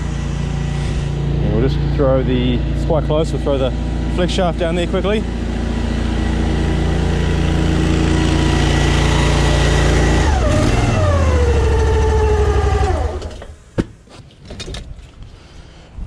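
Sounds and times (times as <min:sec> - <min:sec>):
petrol engine running and shutting off: 0:00.0 - 0:13.6.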